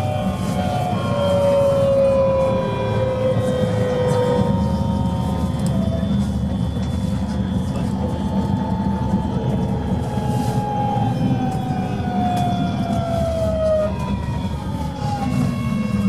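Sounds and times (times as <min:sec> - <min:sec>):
traction inverter whine: 0:00.0 - 0:16.0
tram wheels rumbling: 0:00.0 - 0:16.0.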